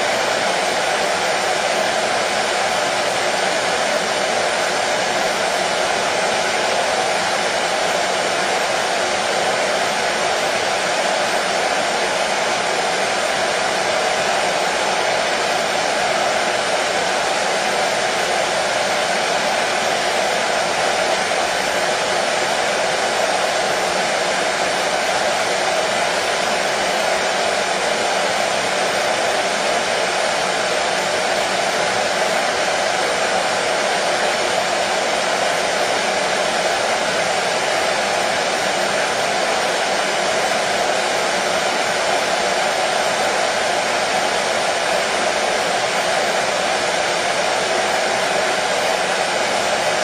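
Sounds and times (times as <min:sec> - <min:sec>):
hair dryer running: 0:00.0 - 0:50.0.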